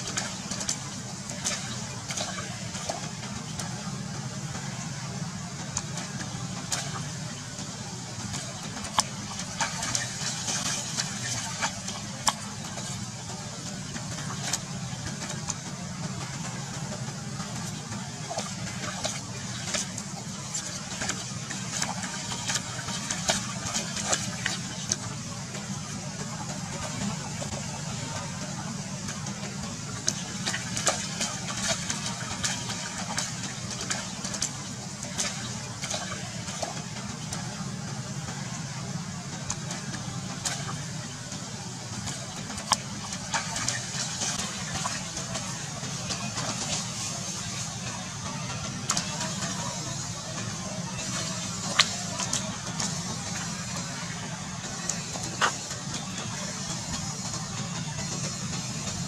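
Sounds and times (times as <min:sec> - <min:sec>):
low motor hum: 0:00.0 - 0:59.0
monkeys splashing in water: 0:00.0 - 0:59.0.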